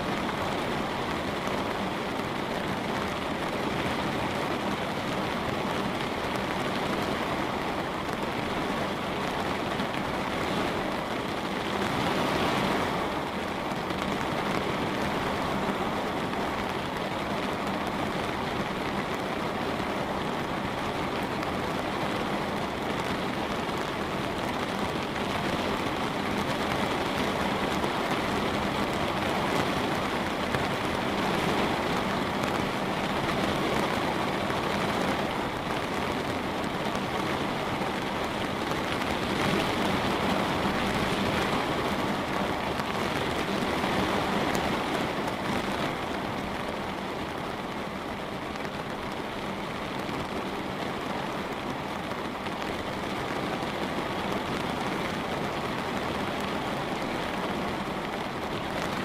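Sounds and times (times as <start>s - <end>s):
light rain on a window: 0.0s - 59.0s.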